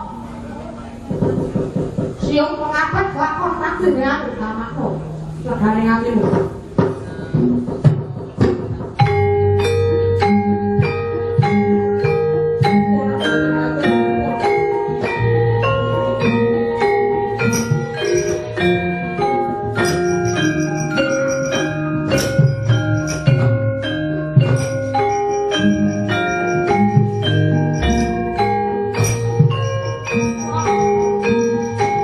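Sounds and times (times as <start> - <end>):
gamelan music: 2.9 - 32.0.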